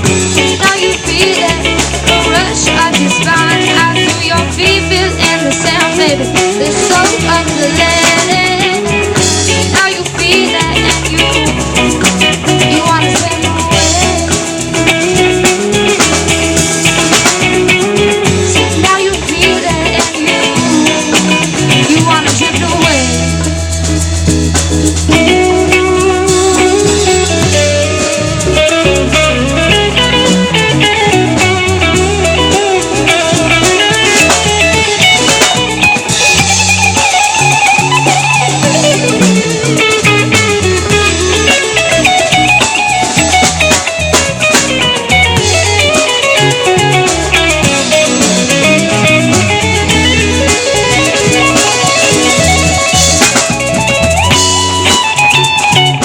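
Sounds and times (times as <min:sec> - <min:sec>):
bass and drums: 0:00.0 - 0:56.0
lead guitar with bent notes: 0:00.0 - 0:56.0.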